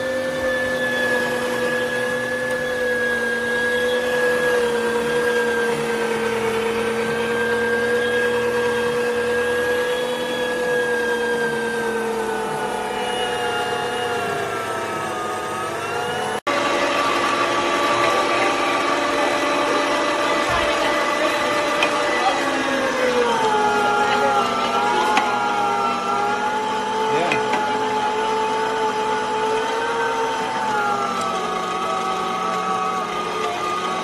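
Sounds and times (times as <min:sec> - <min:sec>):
meat grinder motor whining: 0:00.0 - 0:34.0.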